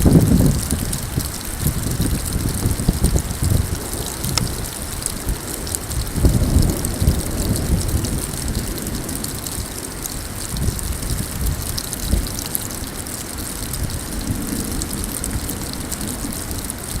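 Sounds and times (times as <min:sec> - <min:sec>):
hail and rain pattering: 0:00.0 - 0:17.0.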